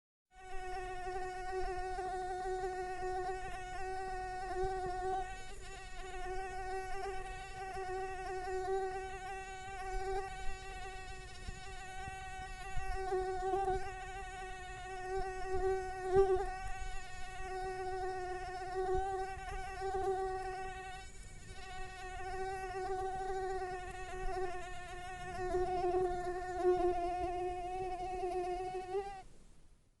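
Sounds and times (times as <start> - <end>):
mosquito wings whining: 0.4 - 29.2.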